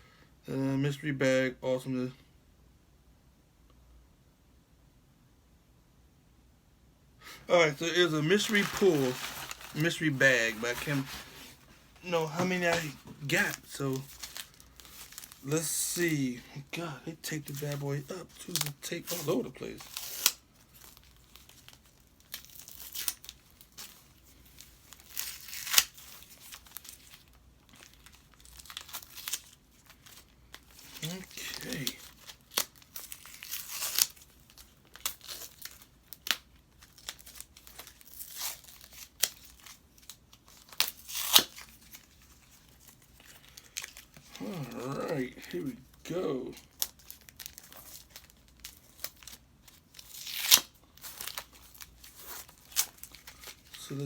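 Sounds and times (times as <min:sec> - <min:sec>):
plastic and paper crinkling: 0:07.4 - 0:54.0
packing tape ripping: 0:07.6 - 0:16.3, 0:17.2 - 0:54.0.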